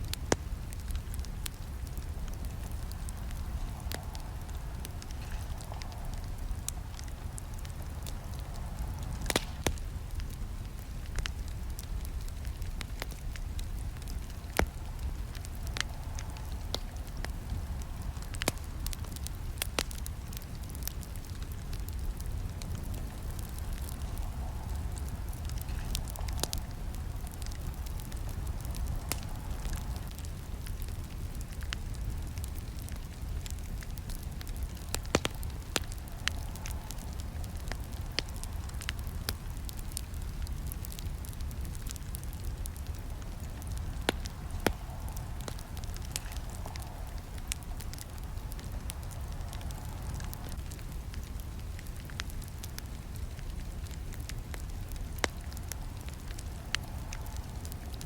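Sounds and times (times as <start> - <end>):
burning wood crackling and popping: 0.0 - 58.0
campfire roaring: 0.0 - 58.0.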